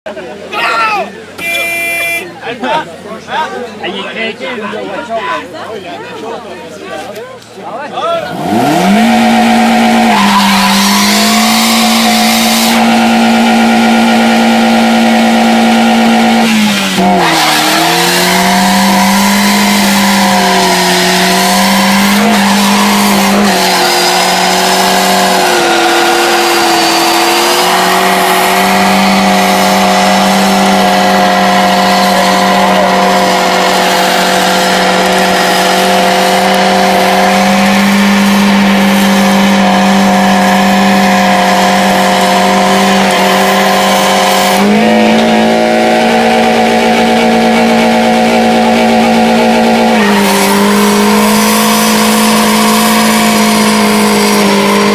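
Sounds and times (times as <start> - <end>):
car engine revving high: 8.2 - 54.9
tires squealing: 8.2 - 54.9.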